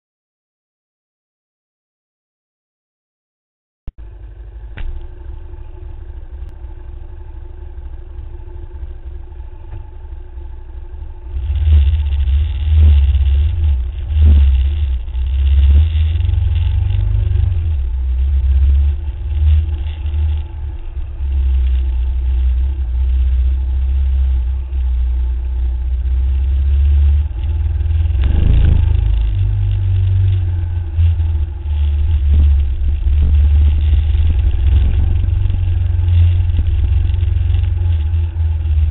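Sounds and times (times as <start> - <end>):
motorcycle engine running: 4.0 - 38.9.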